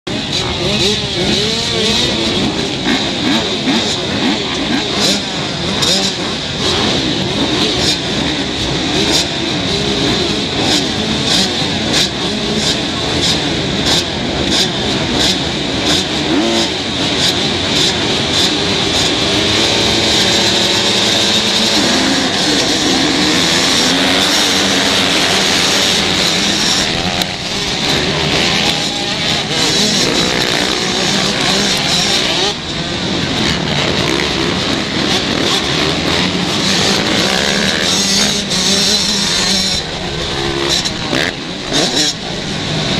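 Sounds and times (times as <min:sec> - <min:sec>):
motocross bikes revving: 0:00.1 - 0:42.9.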